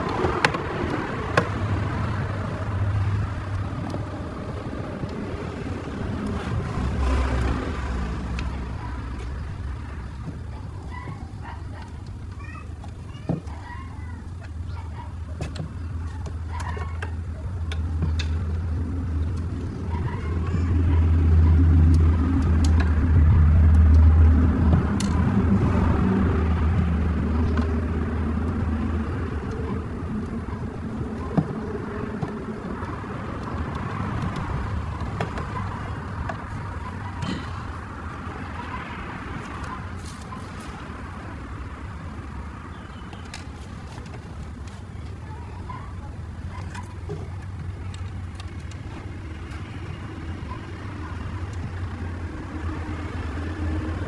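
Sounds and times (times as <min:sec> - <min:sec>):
faint clicks: 0:00.0 - 0:54.0
vehicle engine hum: 0:00.0 - 0:54.0.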